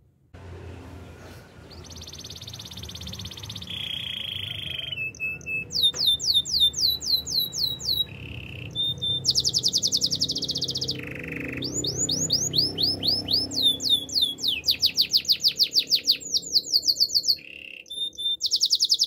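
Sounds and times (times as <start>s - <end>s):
canary singing trills: 1.6s - 19.0s.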